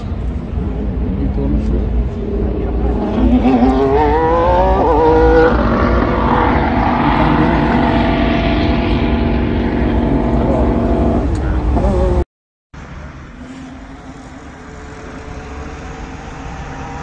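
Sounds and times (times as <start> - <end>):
racing car engine accelerating: 0.4 - 12.2, 13.3 - 17.0.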